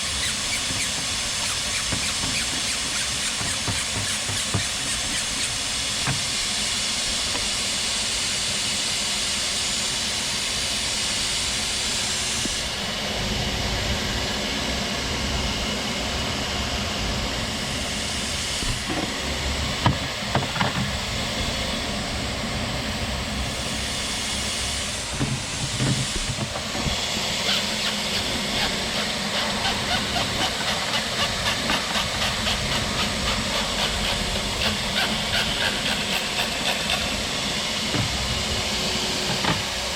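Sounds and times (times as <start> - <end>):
vacuum motor hum: 0.0 - 8.6, 10.1 - 39.9.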